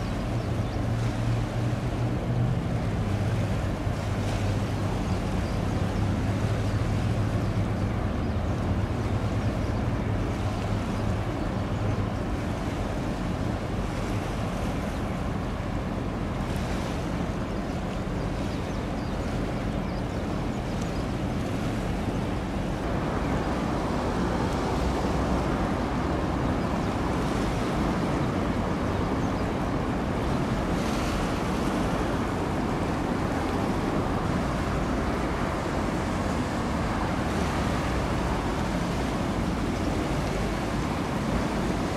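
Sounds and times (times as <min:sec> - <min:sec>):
rushing water: 0:00.0 - 0:41.9
ship engine drone: 0:00.0 - 0:41.9.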